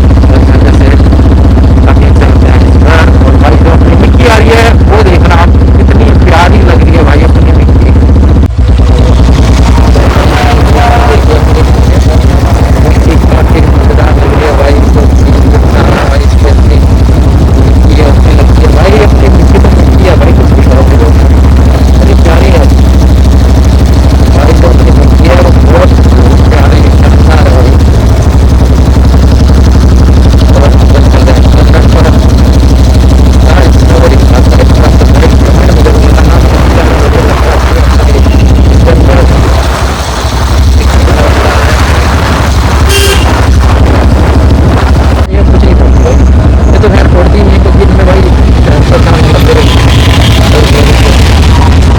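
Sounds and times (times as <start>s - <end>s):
motorcycle engine running loud: 0.0s - 51.9s.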